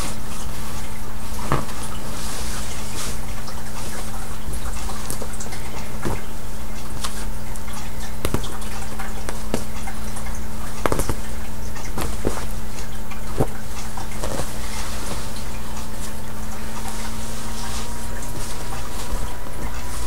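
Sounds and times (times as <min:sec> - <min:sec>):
cloth rustling: 0:00.0 - 0:20.0
steady low hum: 0:00.0 - 0:20.0.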